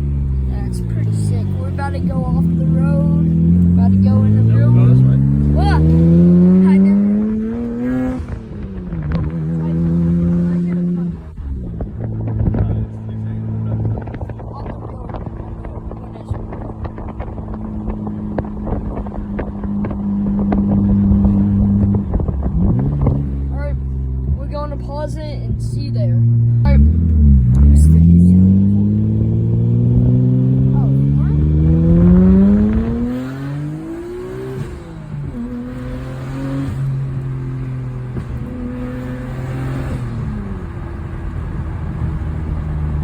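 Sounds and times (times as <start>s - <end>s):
road clicks and knocks: 0.0s - 29.1s, 29.8s - 43.0s
car engine from inside cabin: 0.0s - 43.0s.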